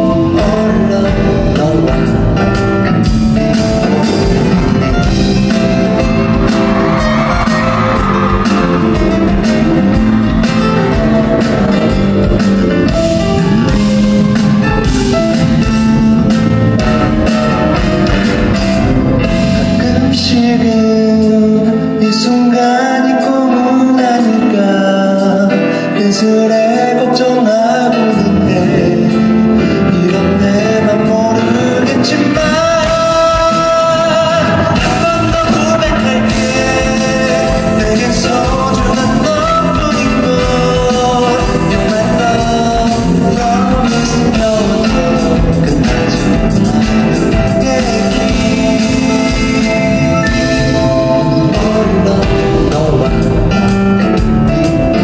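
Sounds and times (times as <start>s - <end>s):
low bass: 0.0s - 22.0s, 28.2s - 55.0s
guitar: 0.0s - 55.0s
live pop band: 0.0s - 55.0s
man singing: 0.0s - 55.0s.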